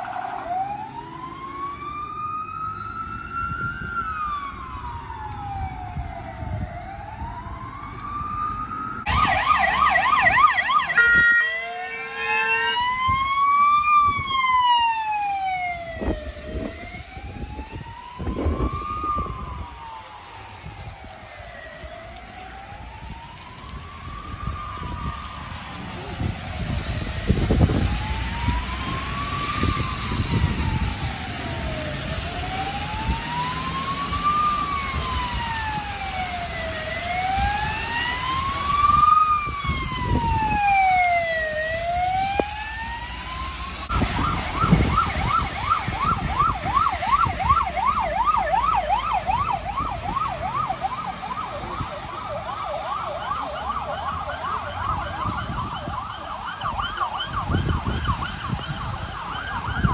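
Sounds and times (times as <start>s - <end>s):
siren wailing and yelping: 0.0s - 59.9s.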